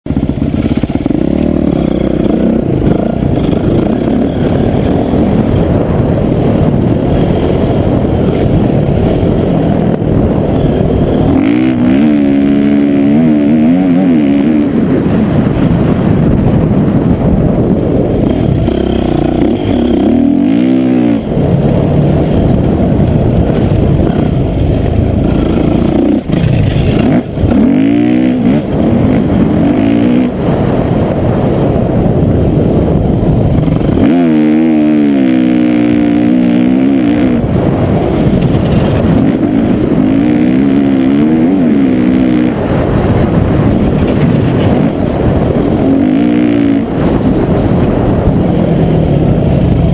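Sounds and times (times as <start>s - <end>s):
dirt bike engine revving: 0.1s - 49.9s.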